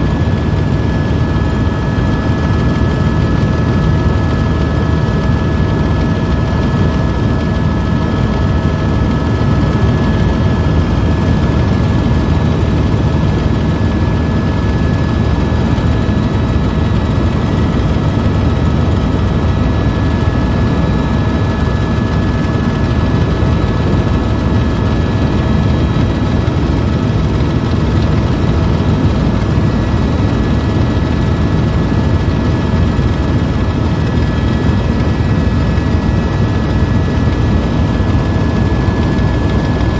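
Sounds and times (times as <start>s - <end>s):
helicopter rotor and engine rumble: 0.0s - 39.9s
constant whining tones: 0.1s - 39.9s.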